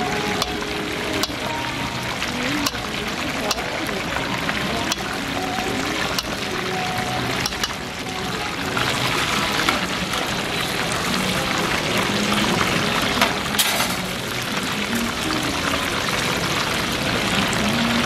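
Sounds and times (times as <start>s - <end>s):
oil bubbling and sizzling: 0.0s - 18.0s.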